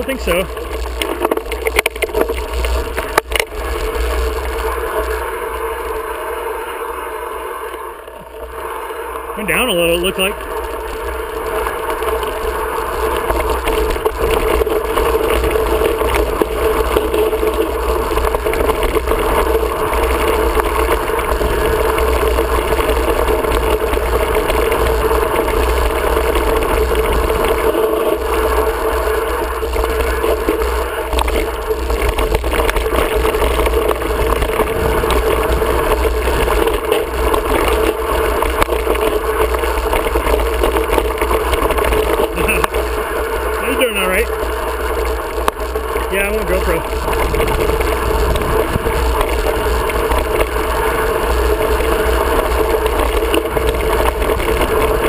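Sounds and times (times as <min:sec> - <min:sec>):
mountain bike rattling over dirt: 0:00.0 - 0:55.0
wind on microphone: 0:10.7 - 0:55.0.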